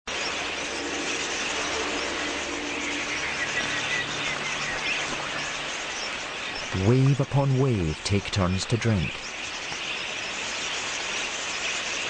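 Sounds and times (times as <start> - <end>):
flock of budgerigars chattering: 0.1 - 12.0.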